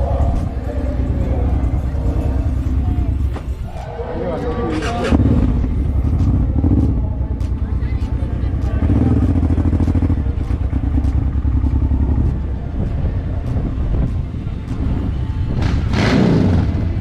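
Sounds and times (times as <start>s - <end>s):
motorcycle engine running: 0.0s - 3.6s, 4.7s - 17.0s.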